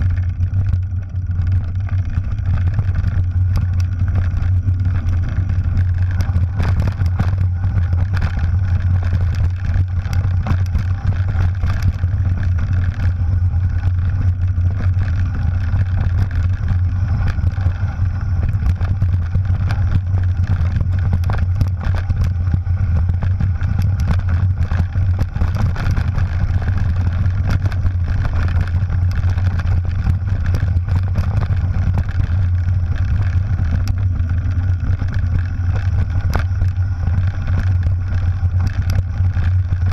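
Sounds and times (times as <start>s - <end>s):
bike knocks and rattles: 0.0s - 39.9s
low rumble of wind and vibration: 0.0s - 39.9s.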